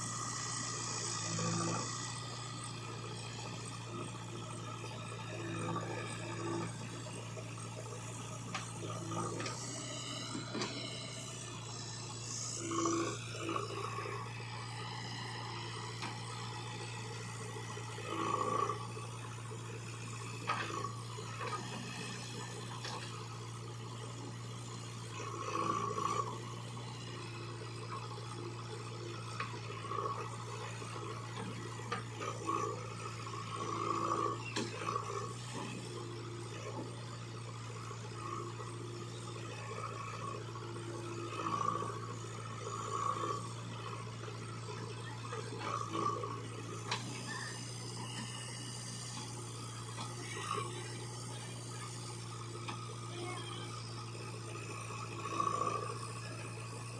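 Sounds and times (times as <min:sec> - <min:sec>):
diesel machinery droning: 0:00.0 - 0:56.9.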